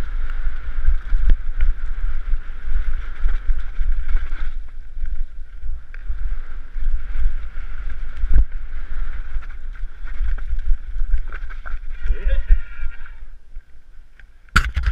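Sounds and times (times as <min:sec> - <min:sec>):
bike knocking and rattling: 0:00.0 - 0:12.2, 0:14.6 - 0:14.9
wind buffeting microphone: 0:00.0 - 0:13.9
bike tyre noise: 0:00.0 - 0:14.9.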